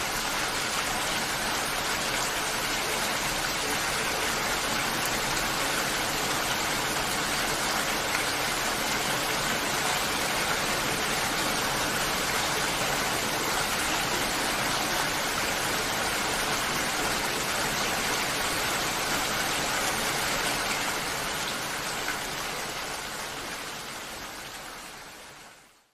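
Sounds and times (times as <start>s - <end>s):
steady rain: 0.0s - 25.9s.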